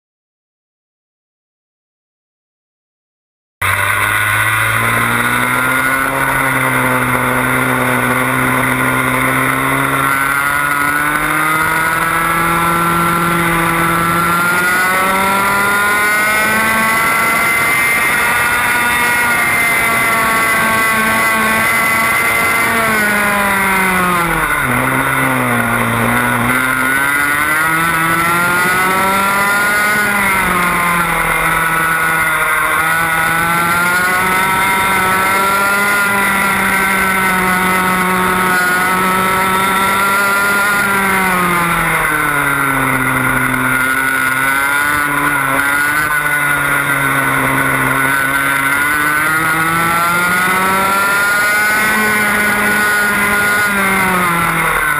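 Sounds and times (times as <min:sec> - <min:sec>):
kart engine racing: 0:03.6 - 0:54.9.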